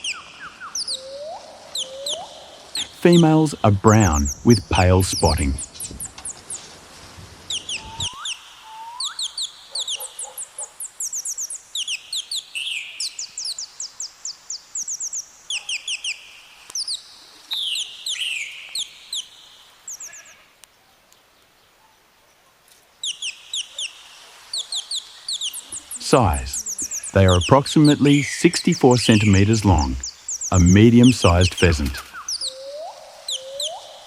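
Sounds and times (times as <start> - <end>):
birds calling: 0.0 - 6.7, 7.3 - 34.0.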